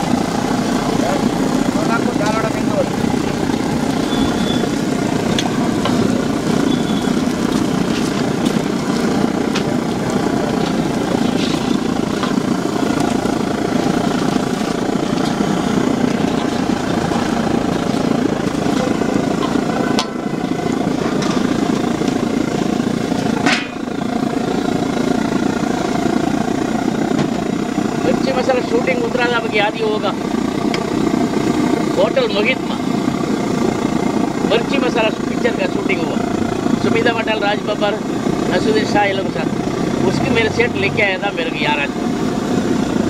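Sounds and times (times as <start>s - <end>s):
food deep-frying in hot oil: 0.0s - 43.0s.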